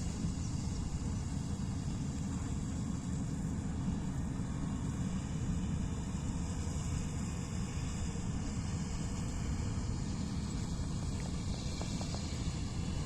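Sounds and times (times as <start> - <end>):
combine harvester engine rumble: 0.0 - 13.0.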